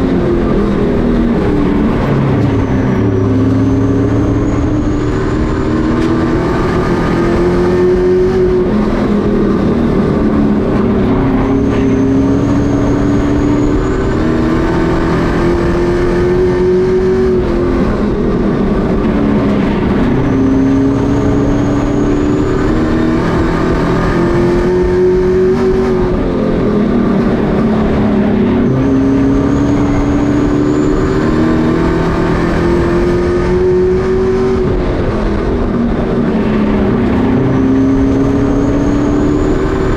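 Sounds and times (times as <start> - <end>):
race truck engines accelerating: 0.0 - 39.9.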